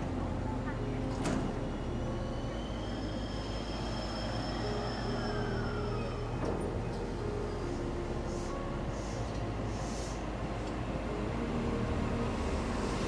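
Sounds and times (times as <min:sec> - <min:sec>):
electric train humming and whining: 0:00.0 - 0:13.0.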